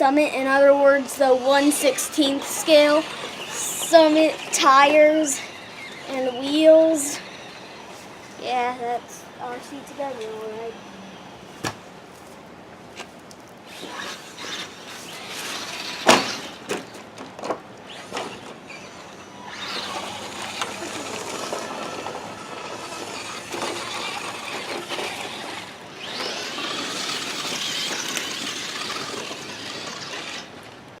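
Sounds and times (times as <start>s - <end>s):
rc truck tyres and drivetrain hiss: 0.0s - 31.0s.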